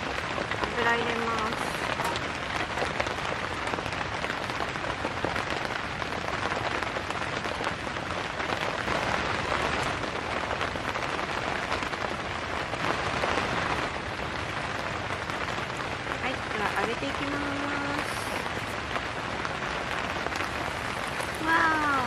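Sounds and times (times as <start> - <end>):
heavy rain on tent fabric: 0.0 - 22.0.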